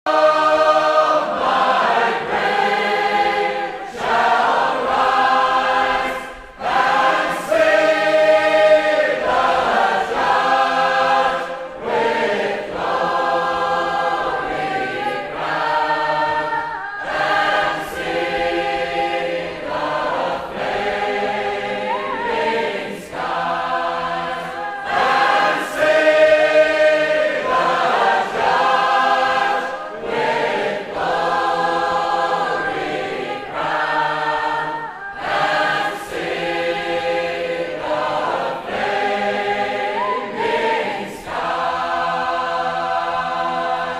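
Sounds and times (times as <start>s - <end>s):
choir singing sustained chords: 0.1s - 43.9s.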